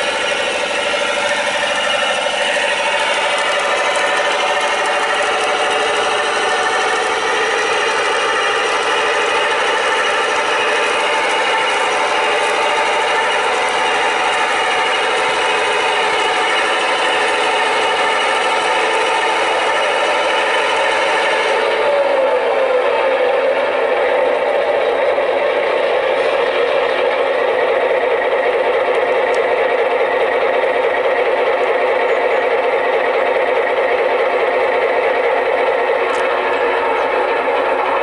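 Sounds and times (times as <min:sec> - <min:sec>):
model train diesel engine sound: 0:00.0 - 0:38.0.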